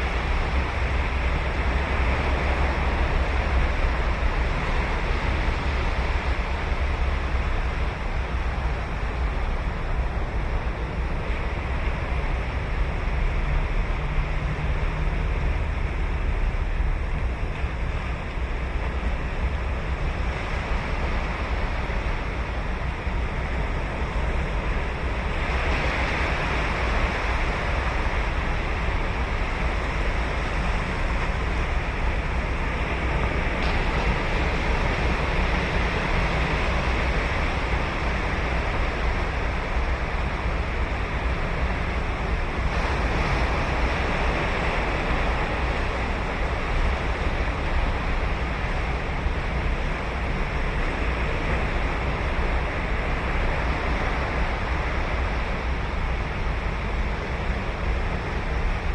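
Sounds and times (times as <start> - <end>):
ocean waves breaking on beach: 0.0 - 58.9.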